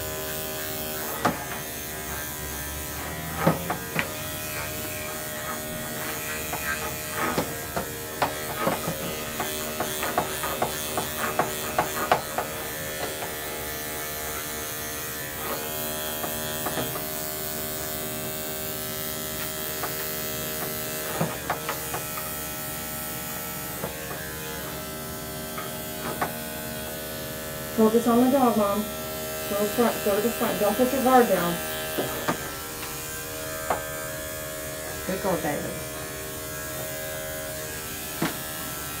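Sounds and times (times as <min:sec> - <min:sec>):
electric clippers buzzing: 0:00.0 - 0:39.0.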